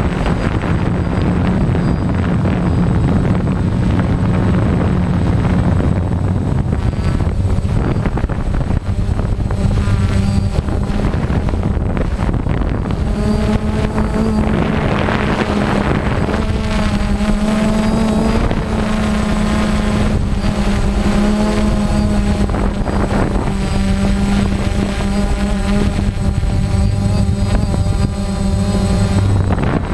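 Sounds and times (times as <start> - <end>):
drone motors and propellers whining: 0.0 - 29.9.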